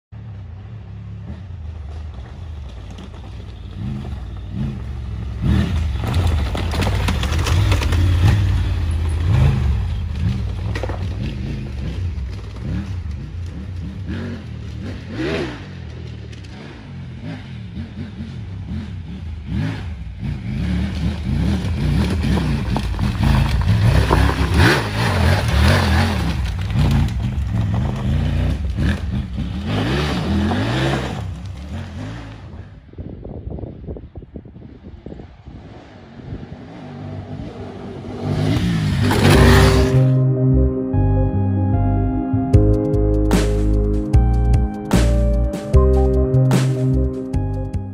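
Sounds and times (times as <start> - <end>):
motorcycle engine revving: 0.2 - 33.0, 34.6 - 40.7.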